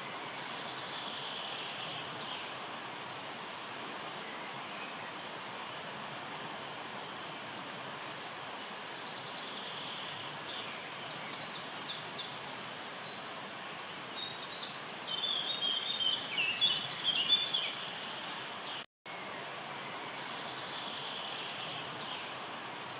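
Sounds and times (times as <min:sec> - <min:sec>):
background hiss: 0:00.0 - 0:22.9.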